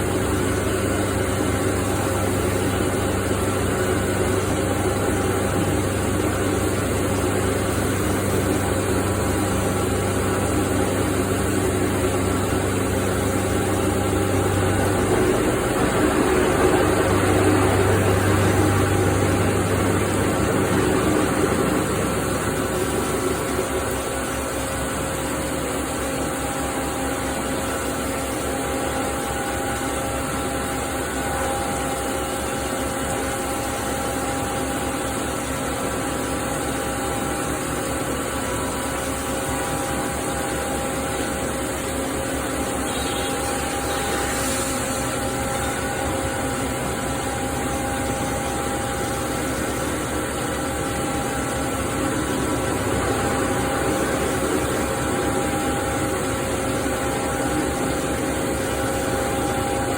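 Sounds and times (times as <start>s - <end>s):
cnc mill cutting whine: 0.0s - 59.9s
mechanical hum: 0.0s - 59.9s.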